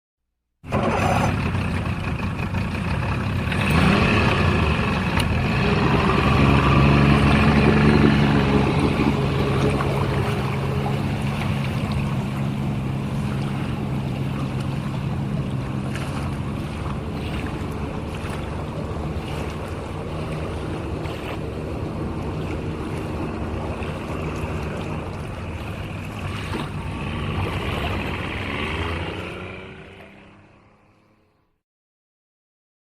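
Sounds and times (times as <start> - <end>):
truck engine running: 0.7 - 30.4.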